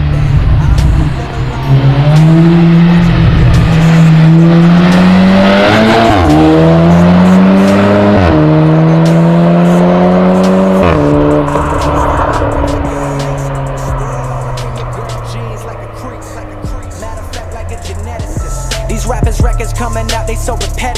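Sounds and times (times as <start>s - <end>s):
car engine accelerating through gears: 0.0s - 20.9s.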